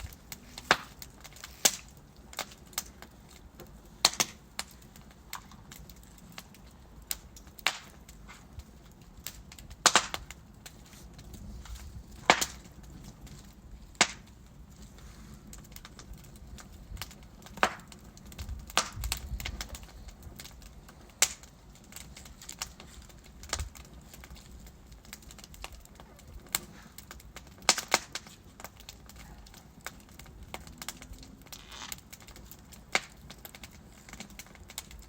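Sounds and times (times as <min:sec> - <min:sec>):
logs crackling and popping: 0:00.0 - 0:35.0
low rumble of flame: 0:00.0 - 0:35.0.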